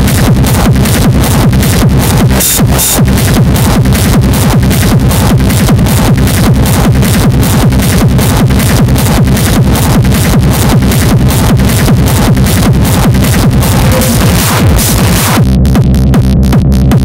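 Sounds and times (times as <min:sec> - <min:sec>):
electronic dance music: 0:00.0 - 0:17.0.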